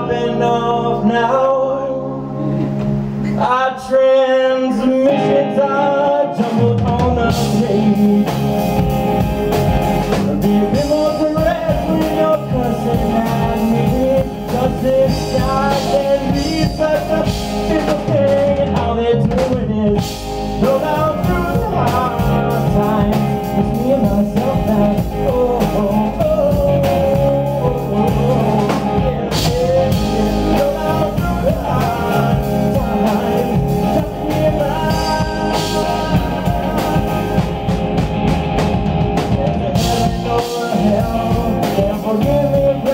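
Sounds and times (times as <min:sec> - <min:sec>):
person singing: 0:00.0 - 0:09.0, 0:10.0 - 0:37.9, 0:39.2 - 0:42.9
bass guitar: 0:00.0 - 0:42.9
electric guitar: 0:00.0 - 0:42.9
drum kit: 0:06.4 - 0:42.9.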